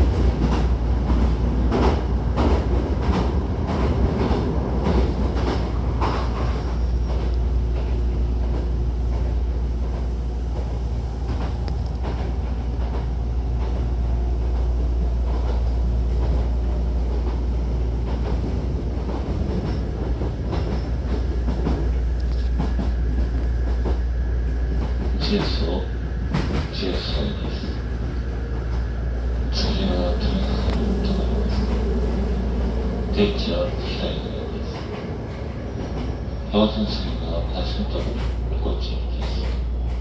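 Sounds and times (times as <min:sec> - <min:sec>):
train interior rumble: 0:00.0 - 0:40.0.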